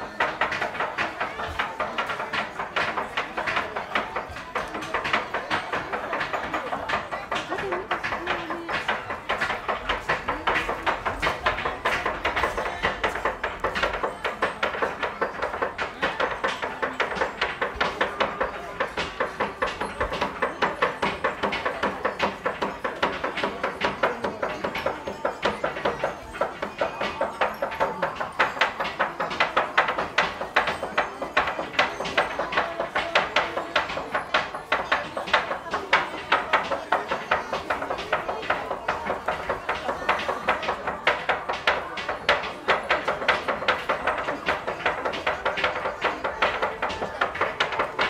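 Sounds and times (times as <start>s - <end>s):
cleavers chopping on wooden board: 0.0s - 48.0s.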